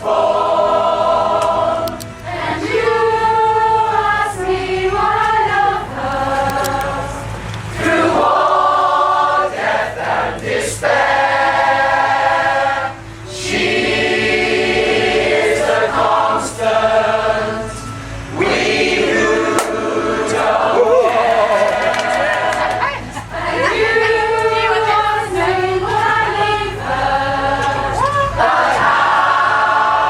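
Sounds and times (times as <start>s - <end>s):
pop choir singing: 0.0s - 30.0s.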